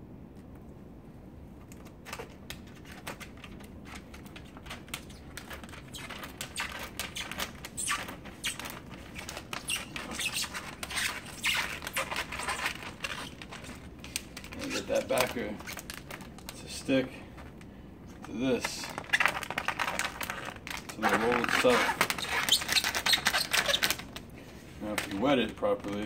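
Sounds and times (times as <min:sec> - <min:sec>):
plastic film crinkling: 0:01.6 - 0:26.0.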